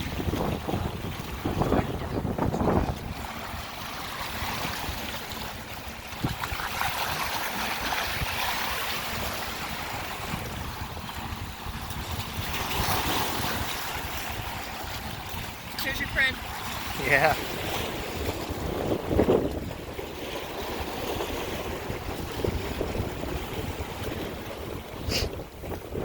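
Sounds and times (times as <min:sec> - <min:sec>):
small waves on shore: 0:00.0 - 0:26.0
wind buffeting microphone: 0:00.0 - 0:26.0.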